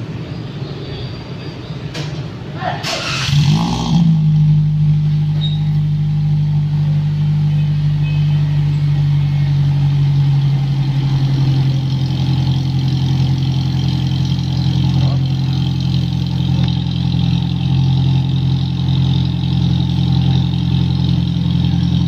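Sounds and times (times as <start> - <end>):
car engine idling: 2.2 - 22.0.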